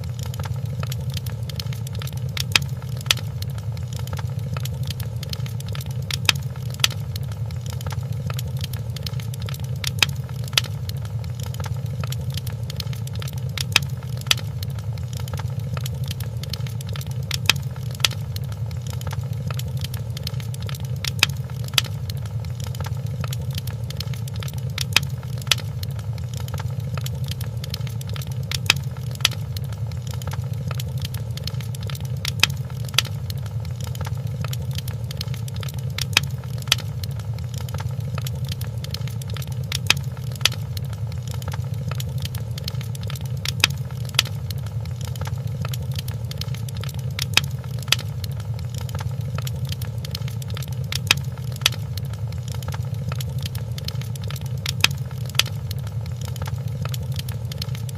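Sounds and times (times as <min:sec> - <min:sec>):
fireplace logs crackling: 0:00.0 - 0:57.9.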